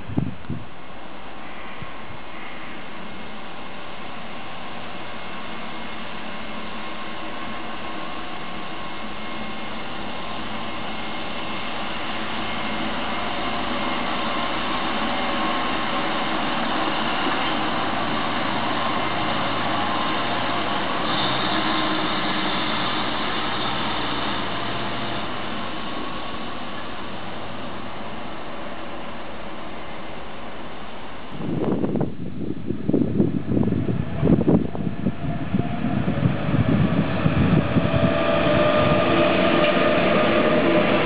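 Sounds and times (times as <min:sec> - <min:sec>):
railcar engine passing: 0:00.0 - 0:41.0.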